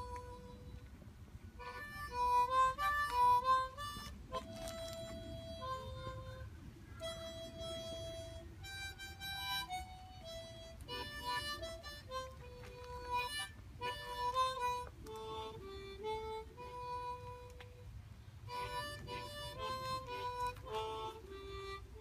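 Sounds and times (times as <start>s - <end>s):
harmonica playing slow melody: 0.0s - 22.0s.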